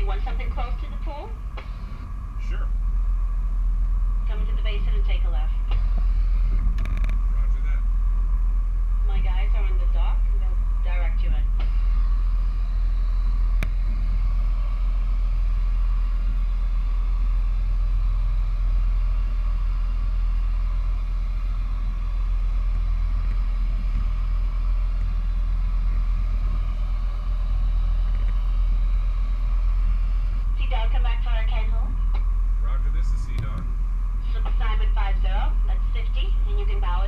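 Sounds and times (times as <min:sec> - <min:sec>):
boat engines rumbling: 0:00.0 - 0:37.0.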